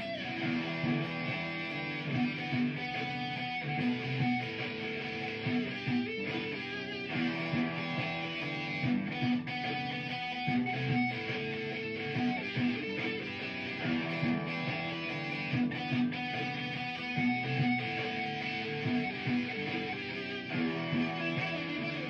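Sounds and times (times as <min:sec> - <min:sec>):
electric guitar solo: 0:00.0 - 0:22.0
looped guitar part: 0:00.0 - 0:22.0.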